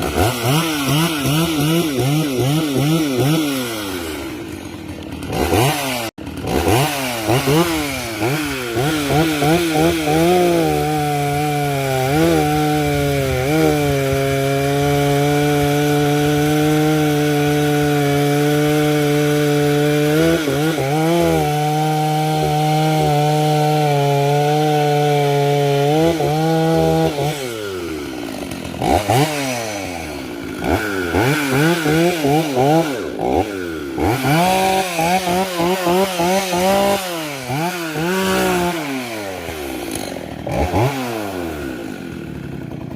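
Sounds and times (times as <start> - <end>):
chainsaw cutting wood: 0.0 - 42.9
chainsaw throttle blips: 0.0 - 42.9.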